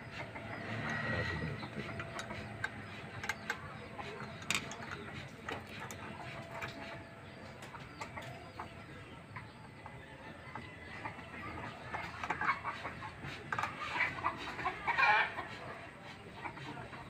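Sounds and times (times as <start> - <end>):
chicken clucking: 0.0 - 17.0.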